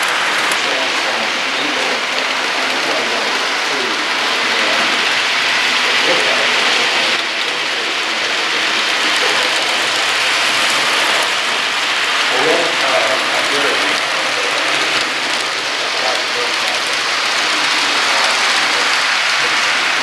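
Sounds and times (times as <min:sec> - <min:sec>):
model trains rattling on track: 0:00.0 - 0:20.0.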